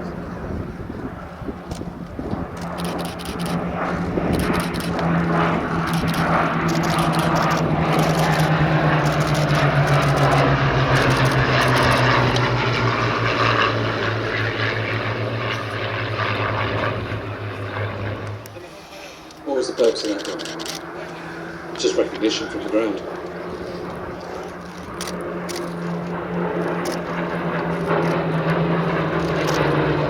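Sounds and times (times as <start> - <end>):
propeller plane flying past: 0.0 - 30.0.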